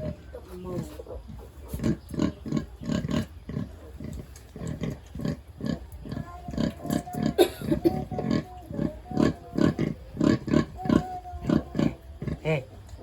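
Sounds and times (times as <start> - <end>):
pig grunting: 0.0 - 13.0.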